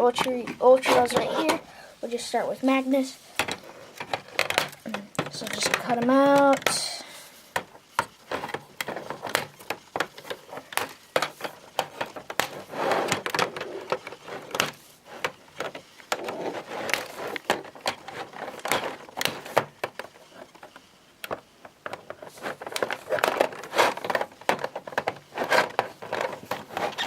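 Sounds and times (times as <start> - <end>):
rustling plastic and cardboard: 0.0 - 27.0.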